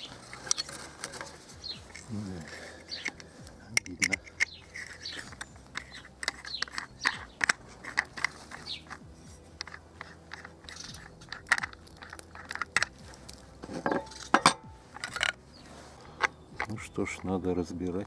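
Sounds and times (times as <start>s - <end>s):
metallic clicks and scrapes of spanner: 0.0s - 2.1s, 2.8s - 15.4s, 16.0s - 17.3s.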